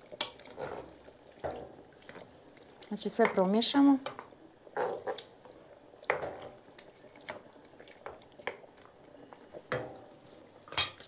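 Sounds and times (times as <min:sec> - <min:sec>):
wooden spoon stirring stew: 0:00.0 - 0:10.5.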